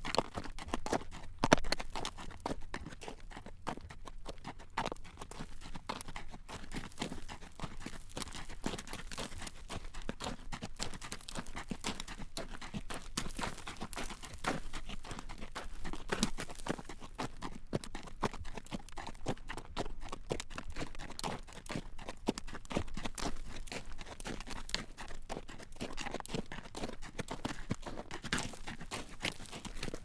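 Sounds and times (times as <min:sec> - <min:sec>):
horse hooves clip-clopping on road: 0:00.0 - 0:30.0.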